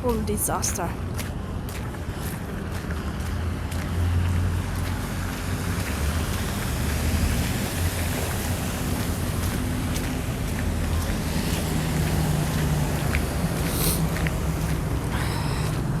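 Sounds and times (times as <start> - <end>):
traffic rumbling: 0.0 - 16.0.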